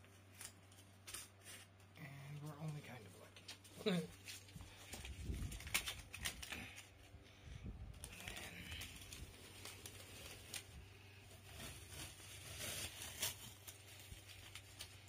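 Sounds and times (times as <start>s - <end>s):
tape peeling and crackling: 0.0s - 1.9s, 3.4s - 7.2s, 7.9s - 15.0s.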